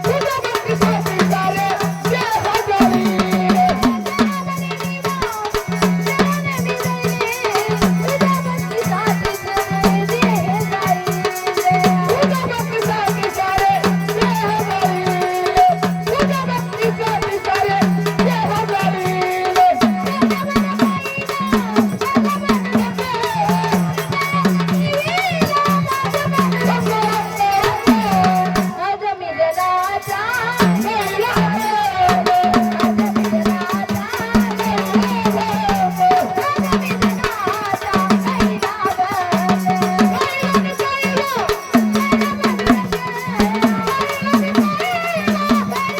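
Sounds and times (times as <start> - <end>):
steady drum beat: 0.0 - 28.8, 29.9 - 45.9
person singing: 0.0 - 45.9
rattling percussion: 0.0 - 45.9.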